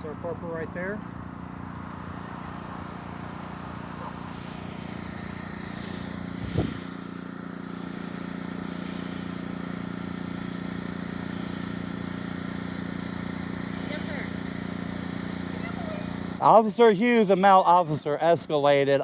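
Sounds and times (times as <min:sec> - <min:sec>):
vehicle engine running: 0:00.0 - 0:18.7.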